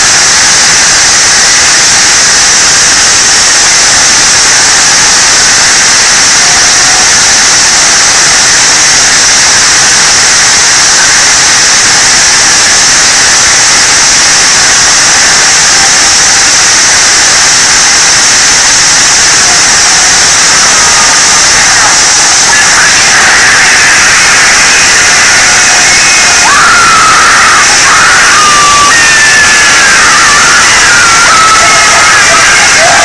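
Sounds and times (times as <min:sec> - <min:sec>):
bright hiss: 0:00.0 - 0:33.0
harsh distorted noise: 0:00.0 - 0:33.0.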